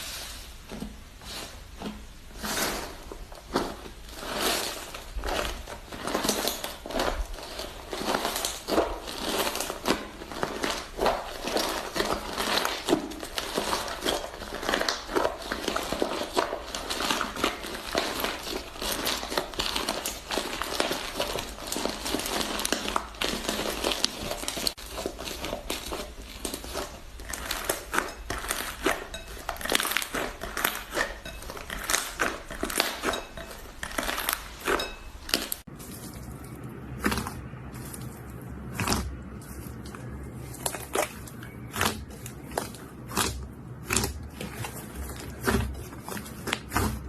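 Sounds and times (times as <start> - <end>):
slime crackling and popping: 0.0 - 47.0.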